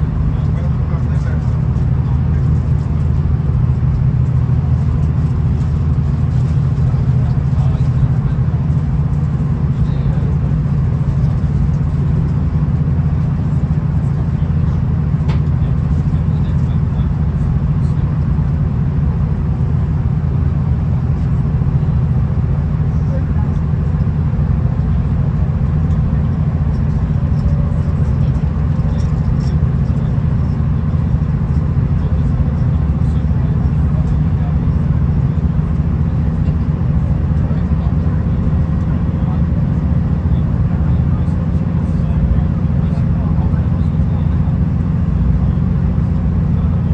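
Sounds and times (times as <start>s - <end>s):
railcar engine drone: 0.0s - 46.9s
train rumbling from on board: 0.0s - 46.9s.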